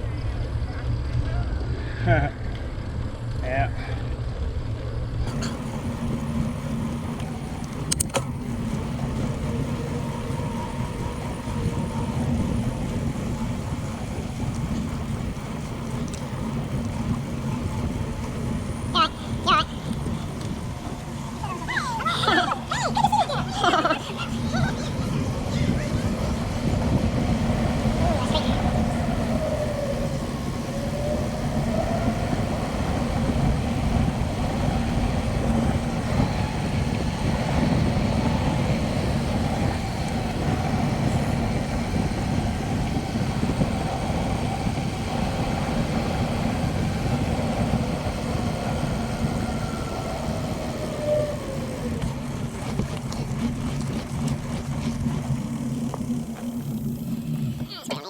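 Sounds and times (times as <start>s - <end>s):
bicycle tyre rumble on road: 0.0s - 57.7s
low hum: 0.0s - 58.0s
wind buffeting microphone: 5.2s - 57.7s.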